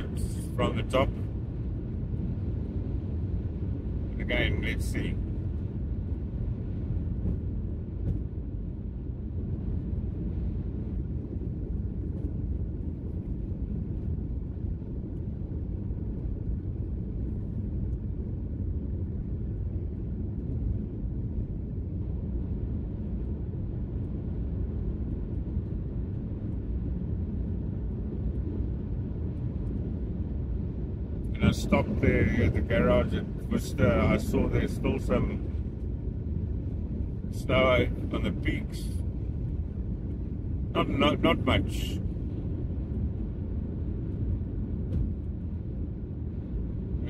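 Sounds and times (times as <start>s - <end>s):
car cabin road rumble: 0.0s - 47.0s.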